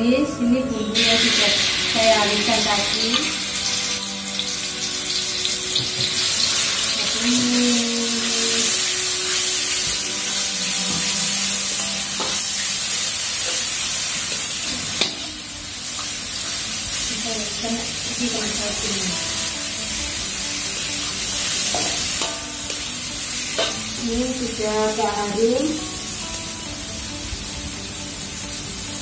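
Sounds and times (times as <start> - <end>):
spice paste sizzling in hot oil: 1.0 - 29.0.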